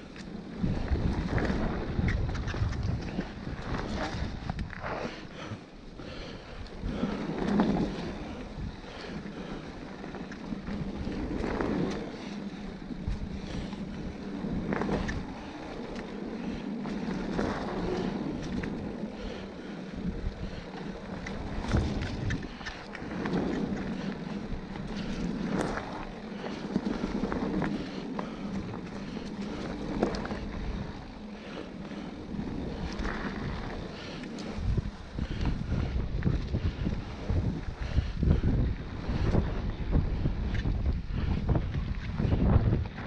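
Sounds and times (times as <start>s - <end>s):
wind on microphone: 0.0s - 5.3s, 6.0s - 43.0s
bike tyres on leaves and dirt: 0.0s - 43.0s.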